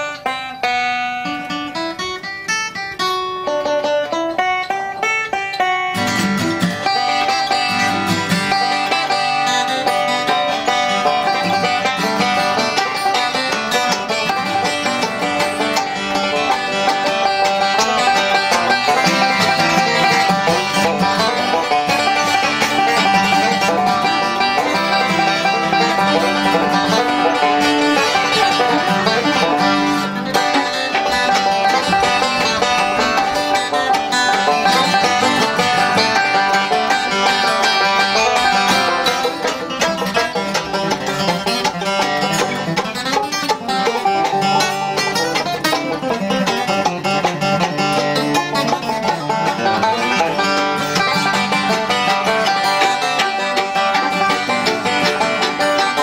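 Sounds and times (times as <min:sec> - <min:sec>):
bluegrass band music: 0:00.0 - 0:56.0
plucked-string picking: 0:00.0 - 0:56.0.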